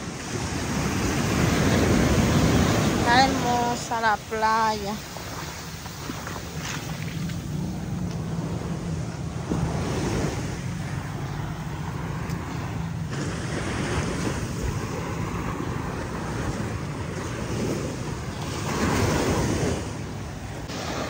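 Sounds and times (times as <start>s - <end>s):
sea waves washing onto beach: 0.0s - 21.0s
wind buffeting microphone: 0.0s - 21.0s.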